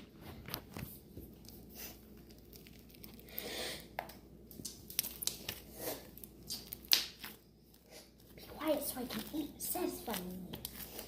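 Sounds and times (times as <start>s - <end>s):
crunchy slime crackling and squishing: 0.0s - 11.0s.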